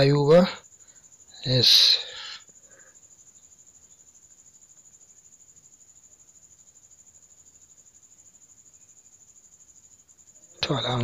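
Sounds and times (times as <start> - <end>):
cricket trilling: 0.0 - 11.0
low background hiss: 0.0 - 11.0.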